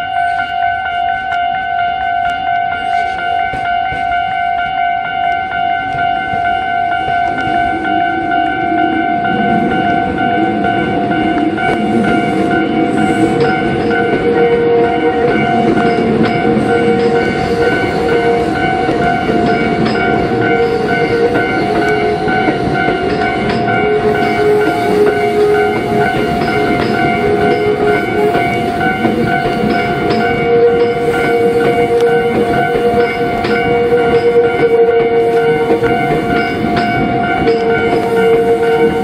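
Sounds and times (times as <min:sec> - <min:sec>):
level crossing warning bell ringing: 0:00.0 - 0:39.0
train rumble and wheel clatter: 0:00.0 - 0:39.0.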